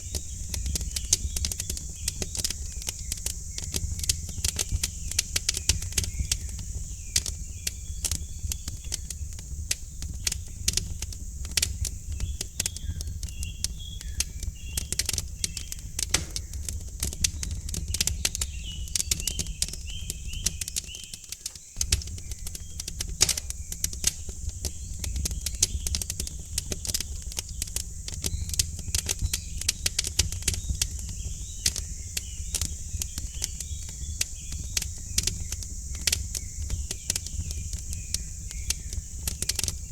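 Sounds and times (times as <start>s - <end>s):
small birds chirping: 0.0s - 39.9s
wood fire crackling: 0.0s - 39.9s.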